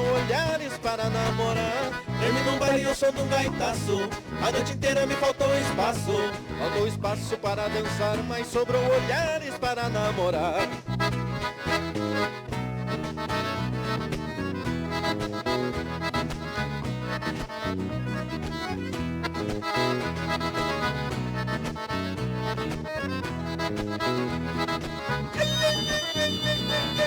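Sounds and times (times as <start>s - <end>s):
accordion dance music: 0.0s - 27.0s
bass and drum beat: 1.1s - 27.0s.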